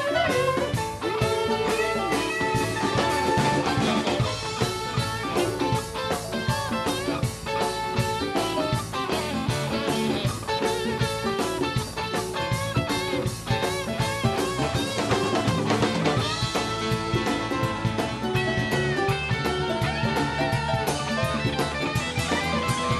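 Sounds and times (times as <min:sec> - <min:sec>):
drum kit beat: 0:00.0 - 0:22.9
electric guitars: 0:00.0 - 0:22.9
keyboards: 0:00.0 - 0:22.9.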